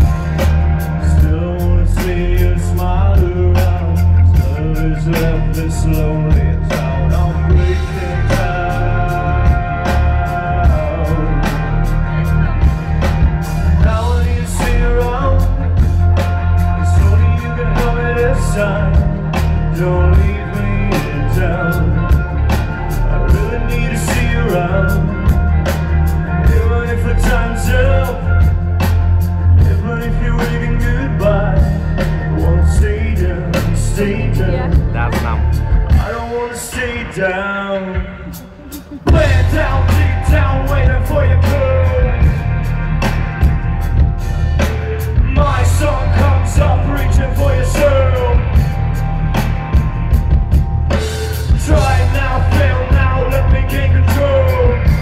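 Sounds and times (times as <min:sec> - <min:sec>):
loud music with singing over speakers: 0:00.0 - 0:55.0.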